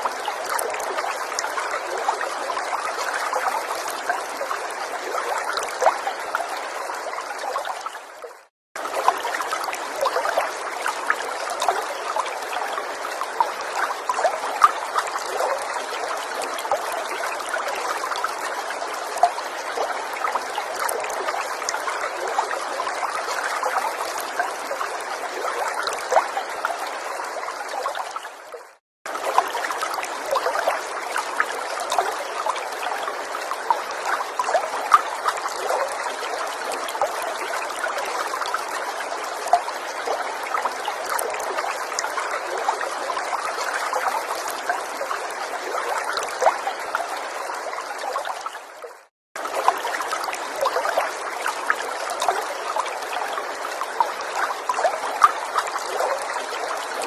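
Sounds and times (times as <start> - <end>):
stream trickling and babbling: 0.0 - 57.0.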